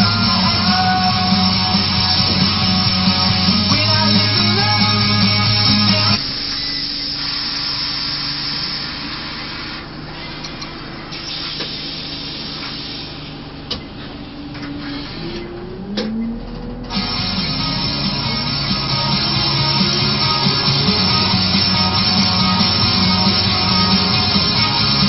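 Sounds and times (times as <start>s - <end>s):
bus diesel engine humming: 0.0s - 25.0s
radio music: 0.0s - 25.0s.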